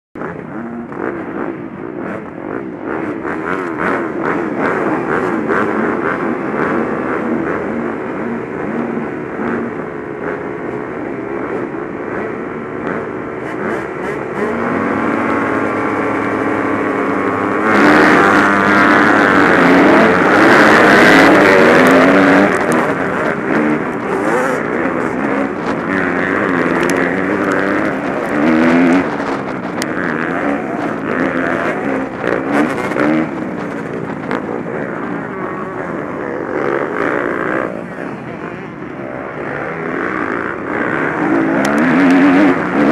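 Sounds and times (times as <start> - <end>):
motocross bike engines revving: 0.2 - 42.9.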